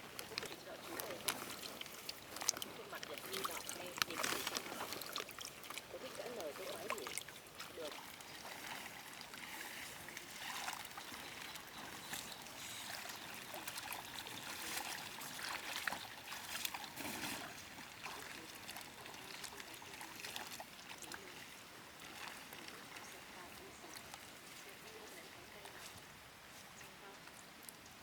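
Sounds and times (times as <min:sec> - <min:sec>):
small splashes and clicks: 0:00.0 - 0:28.0
water sloshing and trickling: 0:00.0 - 0:28.0.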